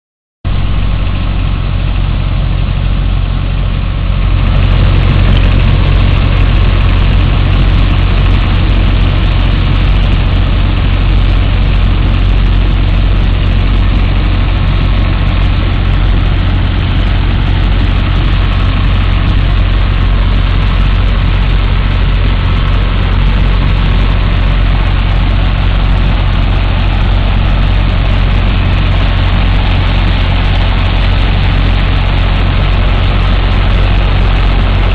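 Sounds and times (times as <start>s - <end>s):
pump engine droning: 0.5s - 34.9s
slurry rushing from pipe: 0.5s - 34.9s.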